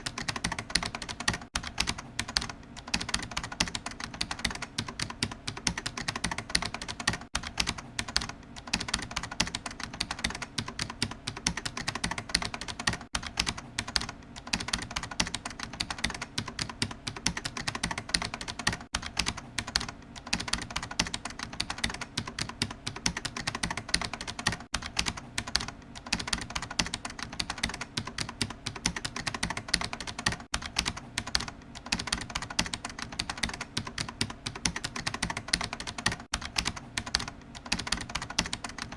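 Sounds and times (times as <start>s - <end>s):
computer keyboard typing: 0.0s - 38.9s.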